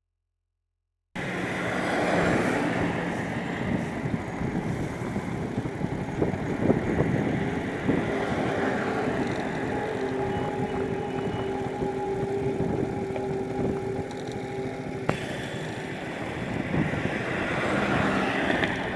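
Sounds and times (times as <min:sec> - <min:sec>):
strong wind gusting: 0:01.2 - 0:18.9.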